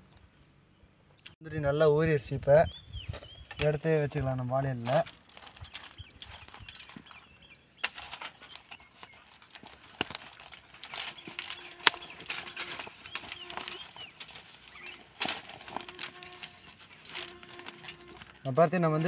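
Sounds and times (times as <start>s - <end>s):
leaf and foil crackling: 3.6s - 19.0s.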